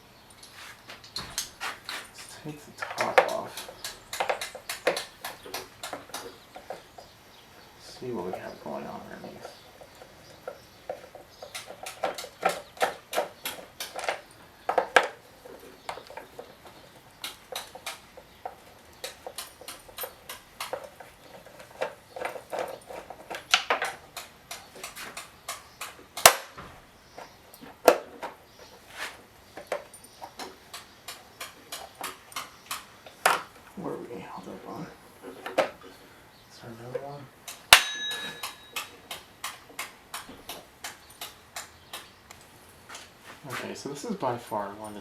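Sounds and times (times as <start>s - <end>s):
hand tools clicking on chainsaw cover: 0.4s - 33.8s, 36.8s - 43.1s.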